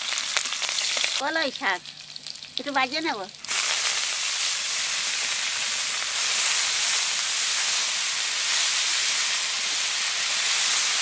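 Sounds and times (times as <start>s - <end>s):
greens sizzling in hot oil: 0.0s - 11.0s.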